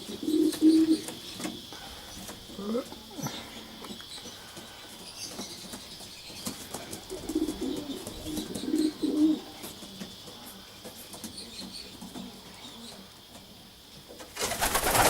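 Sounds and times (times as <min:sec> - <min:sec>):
pigeons cooing: 0:00.0 - 0:13.3.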